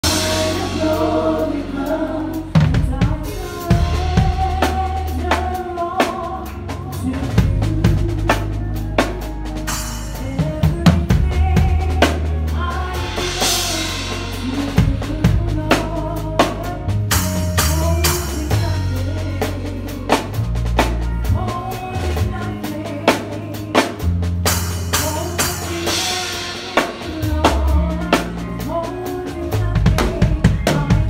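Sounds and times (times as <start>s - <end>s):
band chords and bass: 0.0s - 31.0s
drum kit playing: 0.0s - 31.0s.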